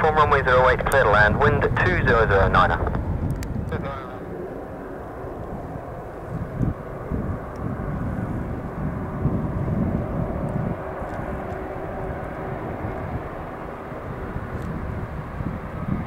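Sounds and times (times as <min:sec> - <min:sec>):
jet airliner engines rumbling: 0:00.0 - 0:16.0
wind buffeting microphone: 0:00.0 - 0:16.0.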